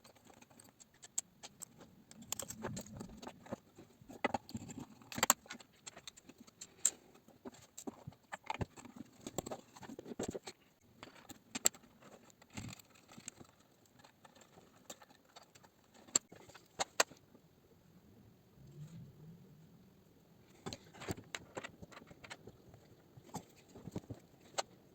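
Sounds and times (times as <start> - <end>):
small clicks taps and rattles: 0.0 - 17.2, 20.5 - 24.9.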